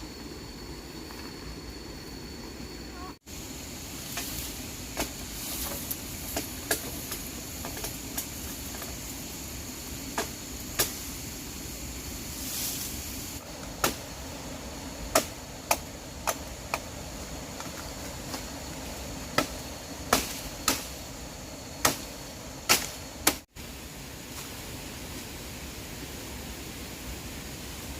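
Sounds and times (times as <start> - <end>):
background hiss: 0.0 - 27.9.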